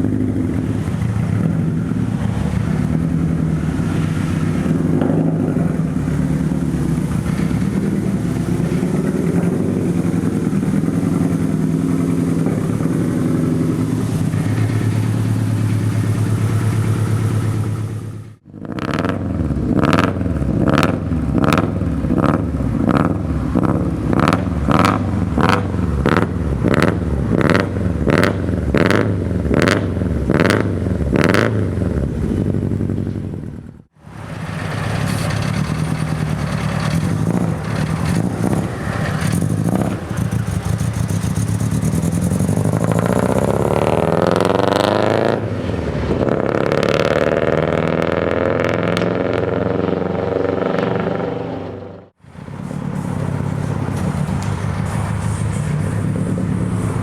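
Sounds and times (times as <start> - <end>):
engine revving: 0.0 - 32.5, 33.8 - 57.0
car engine exhaust: 0.0 - 57.0.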